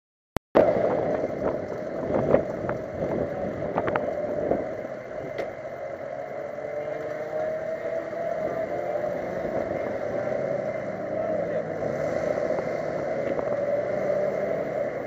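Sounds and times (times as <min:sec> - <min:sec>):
car engine running: 0:00.6 - 0:15.0
road and wind noise: 0:00.6 - 0:15.0.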